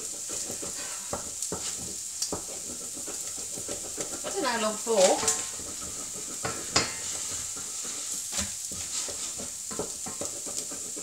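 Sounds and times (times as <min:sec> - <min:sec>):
wooden spoon scraping saucepan: 0:00.0 - 0:11.0.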